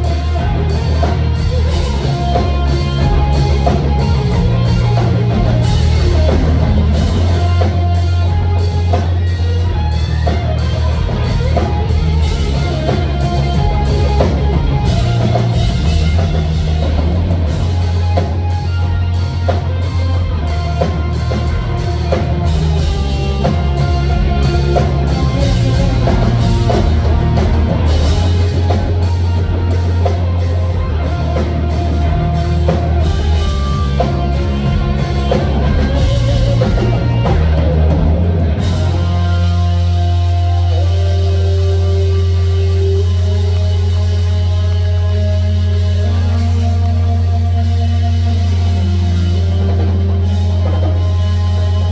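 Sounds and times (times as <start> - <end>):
lead electric guitar: 0.0 - 51.9
live instrumental rock: 0.0 - 51.9.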